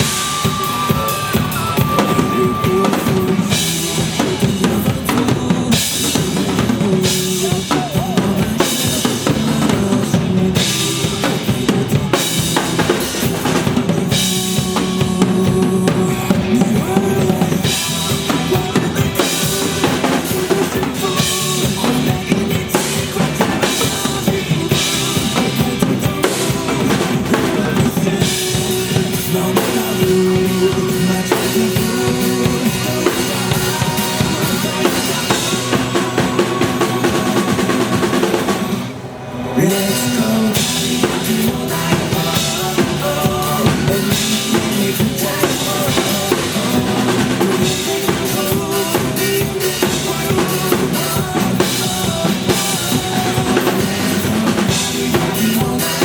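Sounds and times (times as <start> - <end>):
drum kit played live: 0.0 - 56.0
rock backing track: 0.0 - 56.0.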